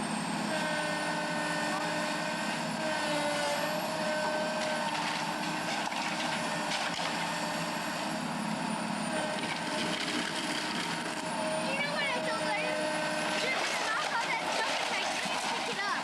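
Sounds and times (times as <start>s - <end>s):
heavy machinery diesel engine: 0.0s - 16.0s.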